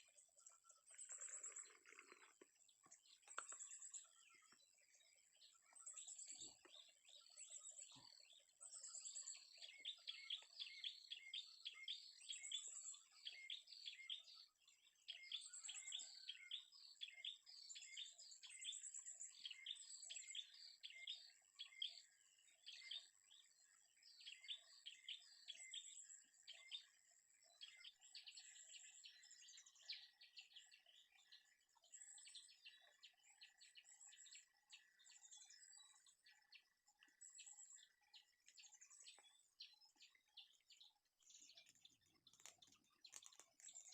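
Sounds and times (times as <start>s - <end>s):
faint birds chirping: 0.0s - 43.9s.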